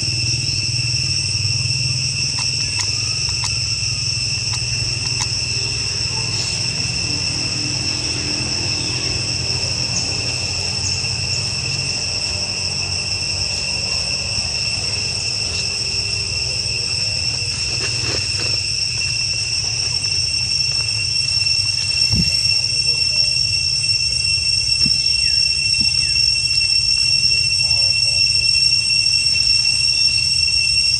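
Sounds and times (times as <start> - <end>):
insects droning: 0.0 - 30.9.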